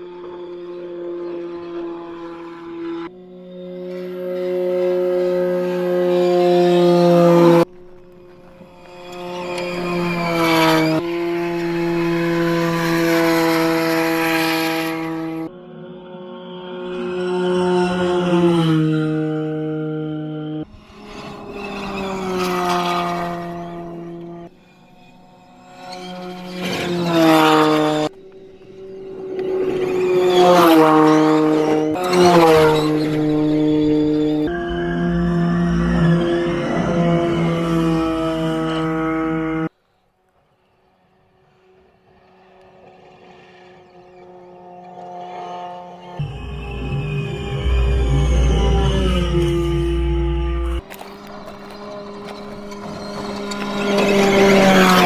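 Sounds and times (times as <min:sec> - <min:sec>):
electric drivetrain whining: 0:00.0 - 0:39.7, 0:41.2 - 0:55.0.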